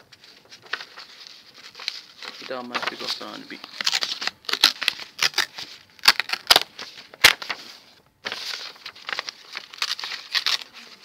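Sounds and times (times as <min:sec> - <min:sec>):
paper crackling and tearing: 0:00.0 - 0:11.0.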